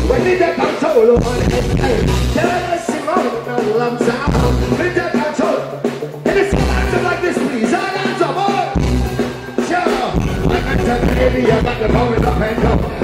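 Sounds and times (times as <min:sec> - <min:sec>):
man singing into a microphone: 0:00.0 - 0:08.7, 0:09.6 - 0:13.0
heavy bass line: 0:00.0 - 0:13.0
live reggae band playing: 0:00.0 - 0:13.0.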